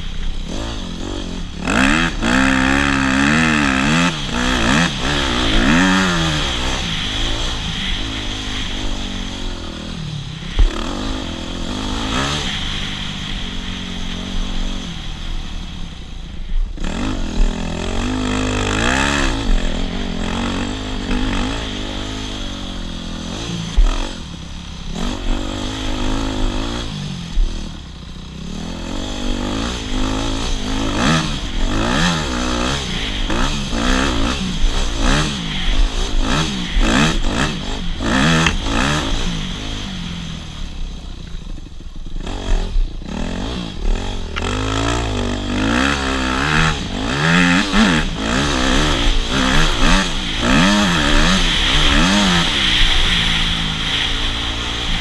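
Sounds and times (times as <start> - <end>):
dirt bike engine revving: 0.0 - 55.0
steady rushing noise: 0.0 - 55.0.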